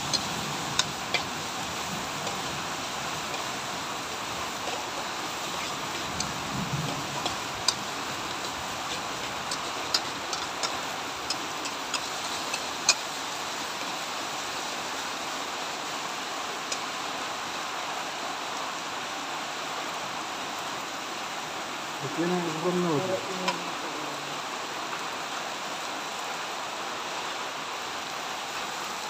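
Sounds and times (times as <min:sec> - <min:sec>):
steady sizzling hiss: 0:00.0 - 0:29.0.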